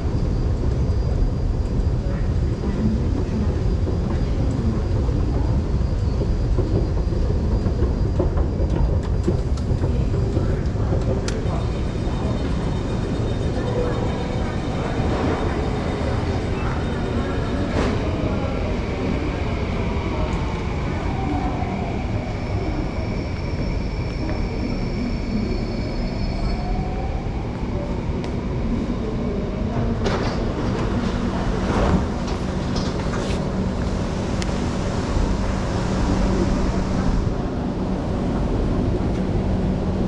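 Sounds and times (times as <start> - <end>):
low hum of standing train: 0.0 - 40.0.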